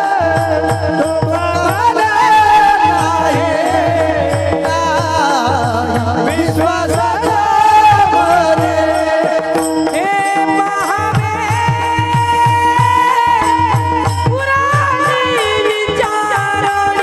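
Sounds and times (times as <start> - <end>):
sustained instrumental tones: 0.0 - 16.2
steady low drum beat: 0.0 - 17.0.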